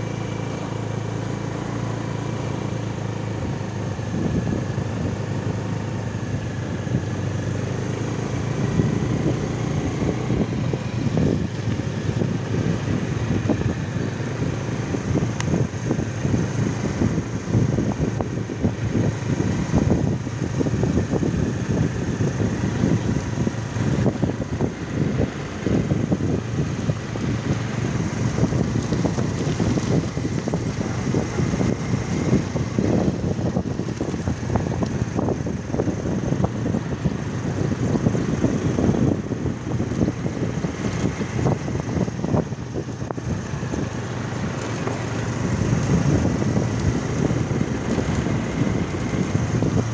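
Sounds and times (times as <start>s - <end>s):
scooter engine running: 0.0s - 49.9s
wind buffeting microphone: 0.0s - 49.9s.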